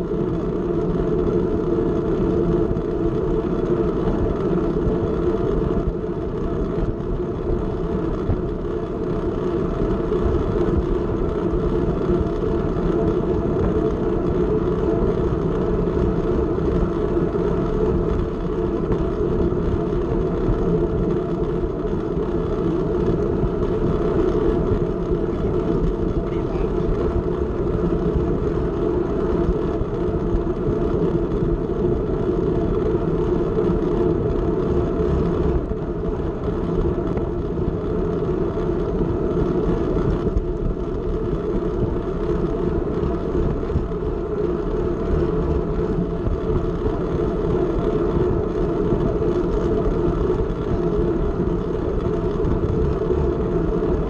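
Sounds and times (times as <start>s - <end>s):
bicycle tyres and chain whirring: 0.0s - 54.0s
wind rushing over camera: 0.0s - 54.0s.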